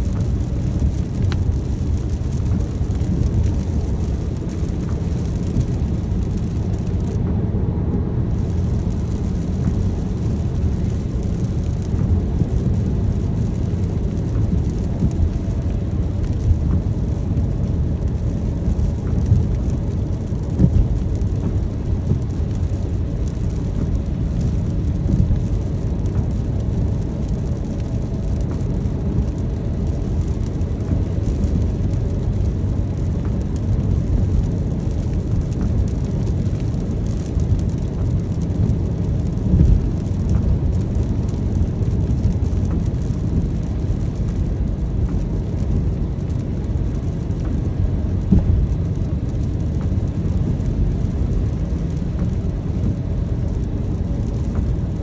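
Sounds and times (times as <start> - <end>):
car road and engine rumble: 0.0 - 55.0
rain on car: 0.0 - 55.0.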